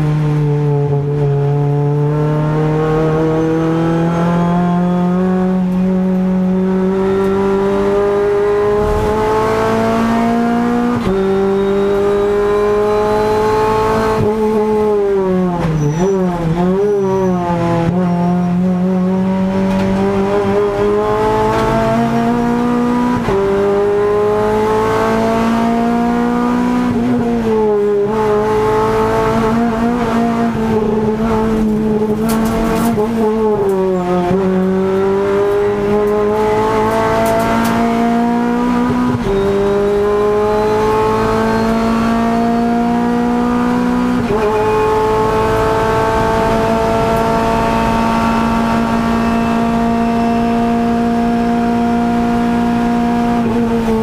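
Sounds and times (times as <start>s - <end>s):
race car engine at full throttle: 0.0s - 54.0s.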